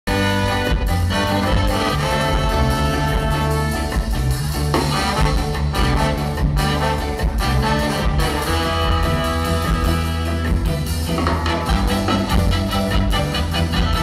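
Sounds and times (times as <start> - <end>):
drums: 0.0 - 14.0
bass line: 0.1 - 14.0
horn section playing: 0.1 - 14.0.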